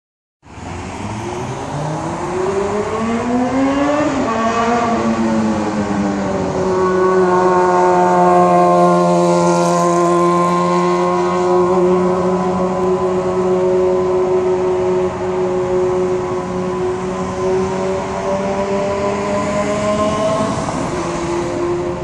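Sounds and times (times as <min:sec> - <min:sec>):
motorcycle accelerating hard: 0:01.0 - 0:22.0.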